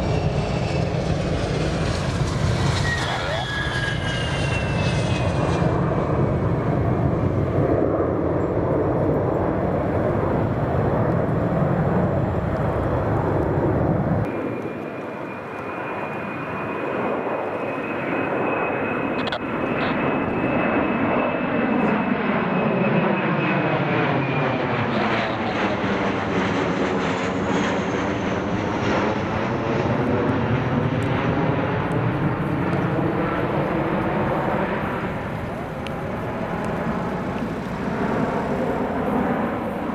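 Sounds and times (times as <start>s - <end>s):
high engine whine: 0.0s - 39.9s
loud jet roar: 0.0s - 39.9s
phasing swish of passing aircraft: 0.0s - 39.9s.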